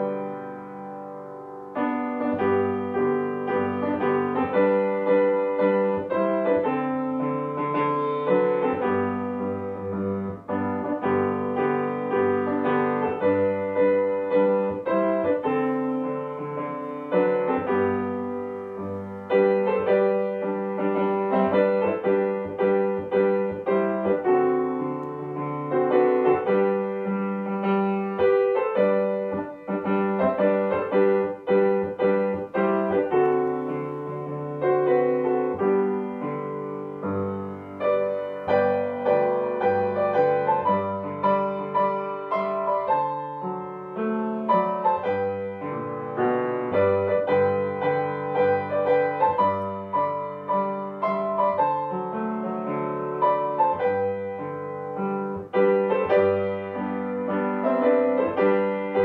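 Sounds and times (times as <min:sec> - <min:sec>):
solo piano music: 0:00.0 - 0:59.0.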